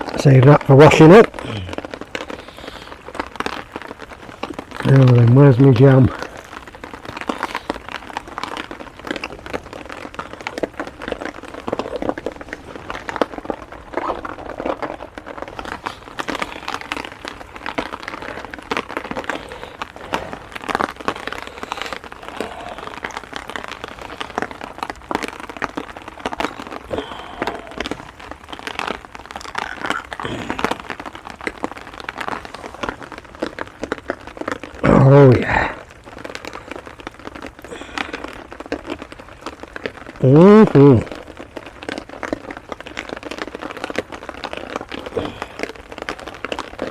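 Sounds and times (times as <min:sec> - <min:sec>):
crinkling and rustling of handling: 0:00.0 - 0:46.9
heavy rain on tarp: 0:00.0 - 0:46.9.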